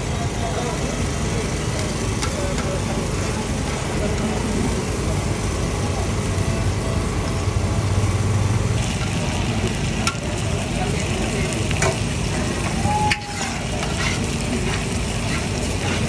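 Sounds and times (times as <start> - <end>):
skewers sizzling on a griddle: 0.0 - 16.0.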